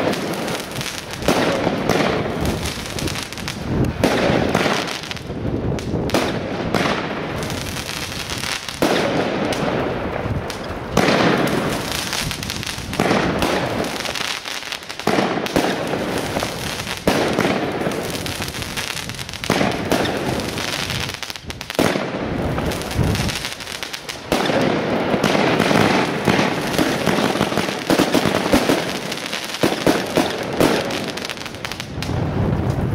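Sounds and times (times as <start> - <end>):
firework crackling: 0.0 - 32.9
firework shots launching: 0.0 - 32.9.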